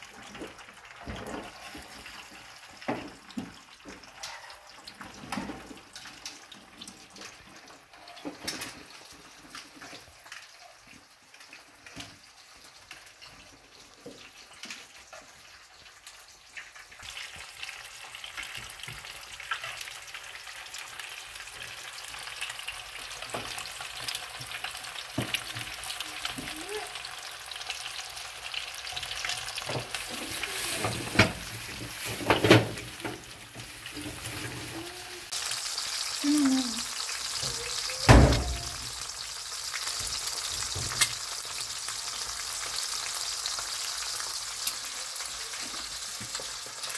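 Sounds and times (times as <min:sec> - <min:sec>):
eggs sizzling in oil: 0:00.0 - 0:46.9.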